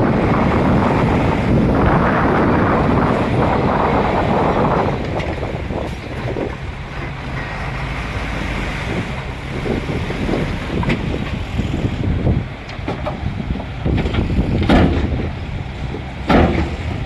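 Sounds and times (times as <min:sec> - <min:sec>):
diesel engine running: 0:00.0 - 0:17.0
wind on microphone: 0:00.0 - 0:17.0.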